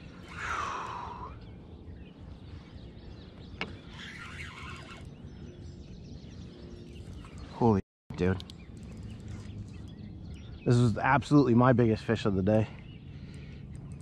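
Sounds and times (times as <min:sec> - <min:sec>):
bird calls: 0:00.0 - 0:14.0
wind: 0:00.0 - 0:14.0.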